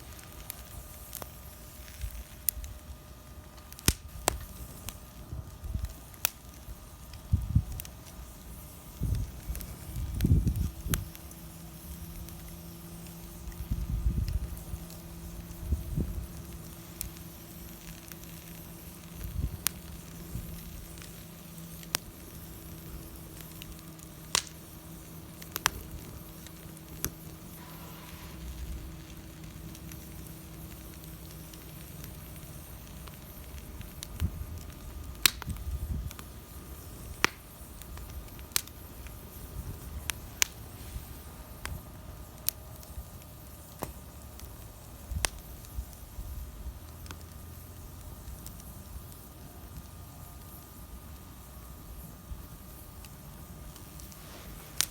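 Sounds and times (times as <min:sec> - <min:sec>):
bonfire popping and cracking: 0:00.0 - 0:54.9
low fire rumble: 0:00.0 - 0:54.9.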